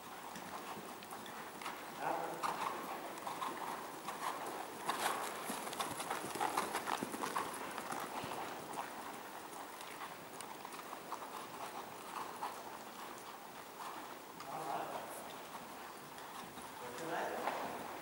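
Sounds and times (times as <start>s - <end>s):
horse hoofbeats trotting on sand: 0.0s - 18.0s.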